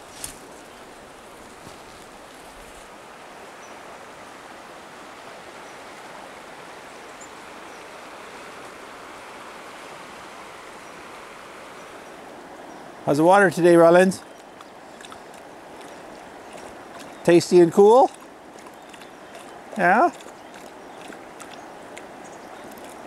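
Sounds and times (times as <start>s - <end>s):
river rushing over stones: 0.0s - 23.0s.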